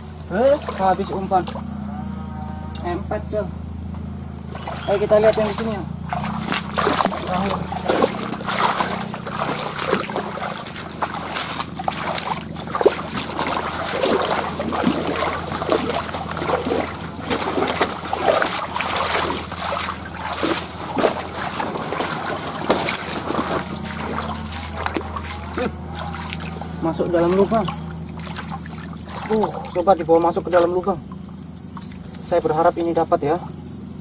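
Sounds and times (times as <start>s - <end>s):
footsteps splashing in stream: 0.0s - 1.7s, 4.4s - 33.1s.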